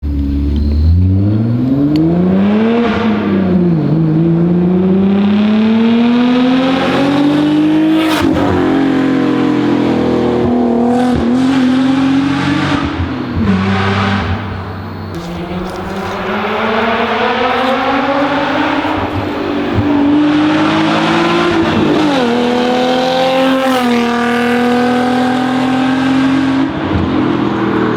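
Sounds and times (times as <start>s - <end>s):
car engine accelerating hard: 0.0s - 27.9s.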